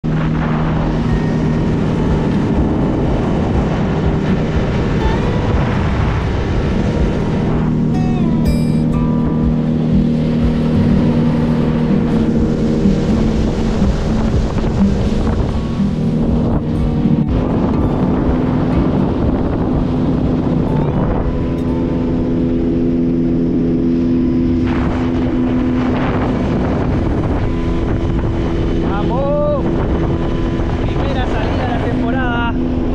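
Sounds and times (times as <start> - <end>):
boat motor humming: 0.0 - 32.9
water along hull: 0.0 - 32.9
wind on microphone: 0.0 - 32.9.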